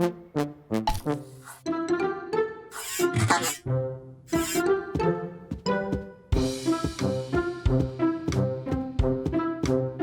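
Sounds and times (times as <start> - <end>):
plucked string cartoon music: 0.0 - 10.0.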